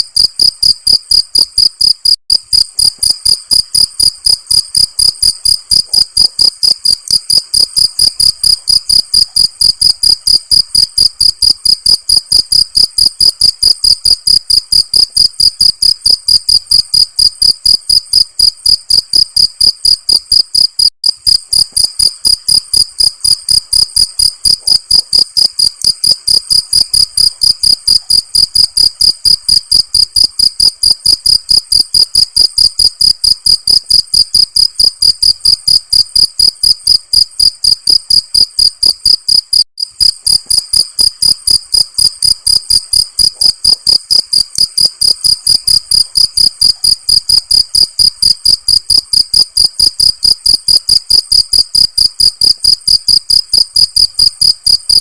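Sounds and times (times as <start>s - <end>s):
crickets chirping: 0.2s - 55.0s.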